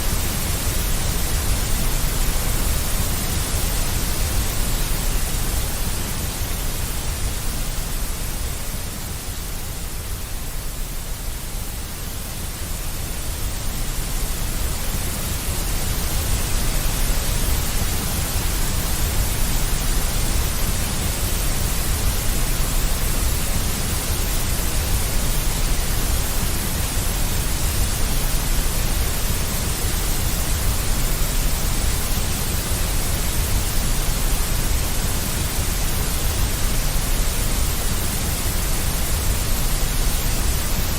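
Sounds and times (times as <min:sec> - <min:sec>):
deep white noise: 0:00.0 - 0:40.9.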